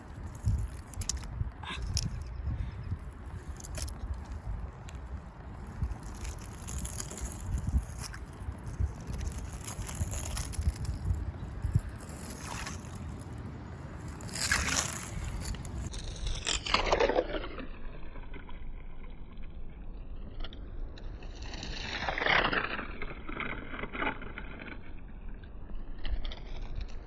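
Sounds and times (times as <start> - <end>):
toy bike scraping and sloshing: 0.0 - 19.6, 21.6 - 25.0
wind rumbling on microphone: 0.0 - 27.0.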